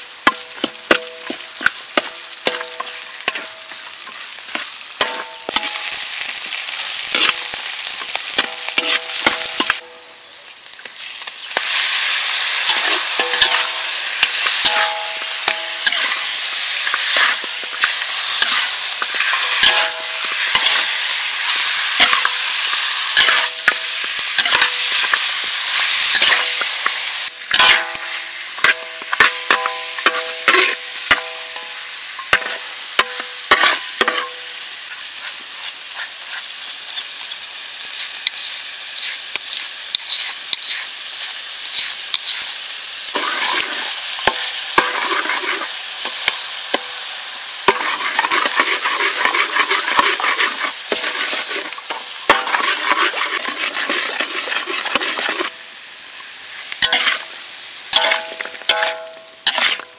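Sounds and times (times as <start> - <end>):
food sizzling in hot oil: 0.0 - 59.9
metal spatula scraping a wok: 0.2 - 10.0, 11.5 - 46.9, 47.5 - 55.6, 56.8 - 57.3, 57.9 - 59.9.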